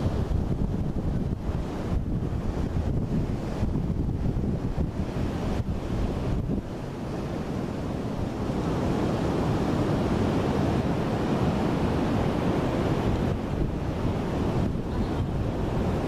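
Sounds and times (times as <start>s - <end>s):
surf rushing on beach: 0.0s - 16.0s
wind buffeting microphone: 0.0s - 16.0s.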